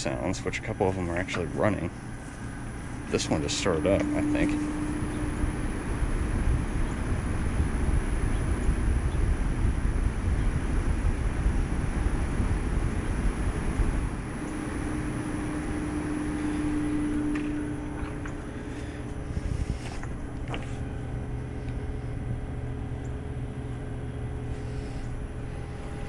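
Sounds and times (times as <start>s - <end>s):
air conditioner fan rushing: 0.0s - 26.0s
low rumble: 0.0s - 26.0s
steady hum: 0.0s - 26.0s.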